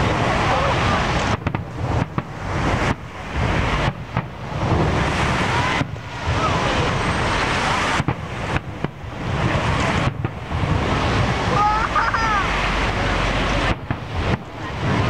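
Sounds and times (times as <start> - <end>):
firework shells booming: 0.0 - 15.0
sharp firework cracks: 0.0 - 15.0.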